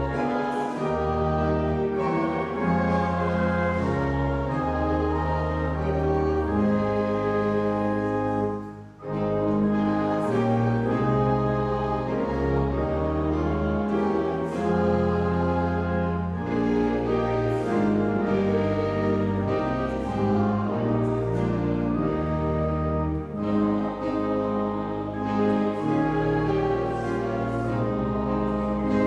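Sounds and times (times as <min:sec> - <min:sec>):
church organ playing chords: 0:00.0 - 0:29.0
congregation singing a hymn: 0:00.0 - 0:29.0.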